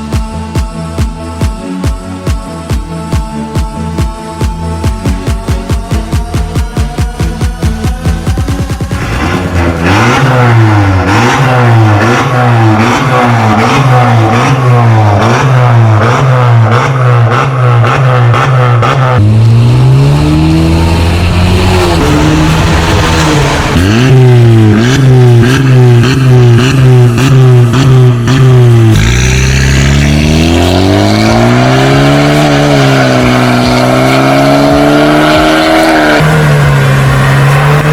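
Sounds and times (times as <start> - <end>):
car engine revving: 4.7 - 37.9.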